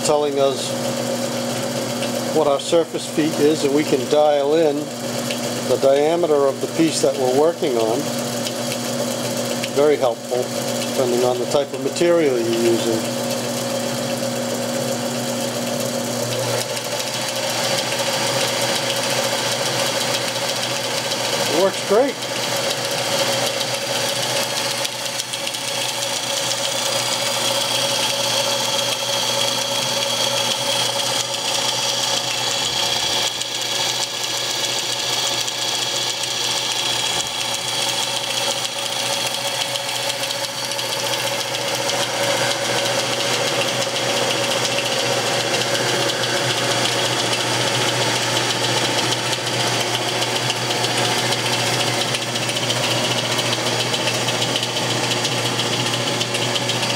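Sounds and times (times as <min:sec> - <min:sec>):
metal lathe running with whine: 0:00.0 - 0:56.9.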